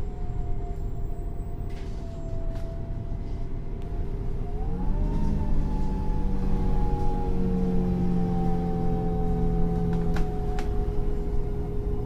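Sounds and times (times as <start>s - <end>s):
bus engine idling: 0.0s - 4.5s, 5.2s - 12.0s.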